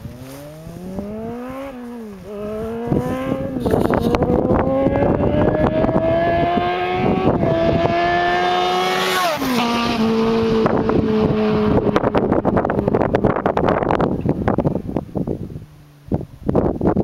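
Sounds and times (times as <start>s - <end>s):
motorcycle engine passing by: 0.0s - 14.0s
wind buffeting microphone: 0.0s - 17.0s.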